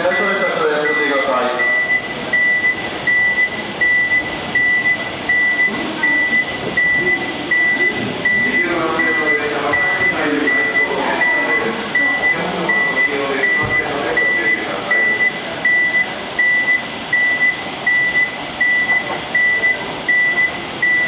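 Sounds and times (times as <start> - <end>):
electronic alarm beeping: 0.0 - 21.0
faint voices: 0.0 - 21.0
platform noise: 0.0 - 21.0.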